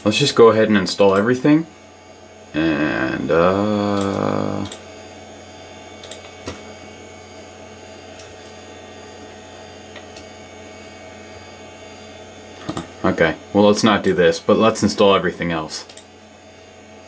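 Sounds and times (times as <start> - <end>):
computer hum and fan noise: 0.0 - 17.0.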